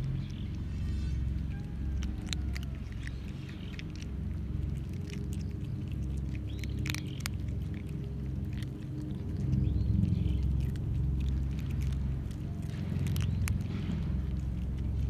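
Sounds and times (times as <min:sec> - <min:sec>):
cats crunching dry kibble: 0:00.0 - 0:15.0
low background rumble: 0:00.0 - 0:15.0.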